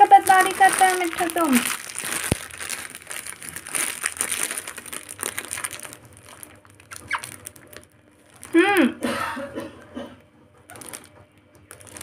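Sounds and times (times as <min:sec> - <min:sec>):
plastic bread packet crinkling: 0:00.0 - 0:09.1, 0:10.6 - 0:12.0.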